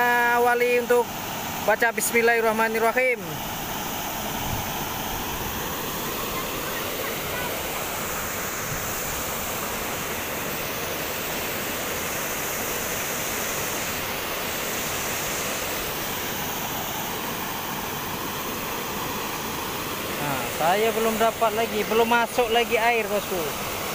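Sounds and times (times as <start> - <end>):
fast-flowing river rushing: 0.0 - 23.9.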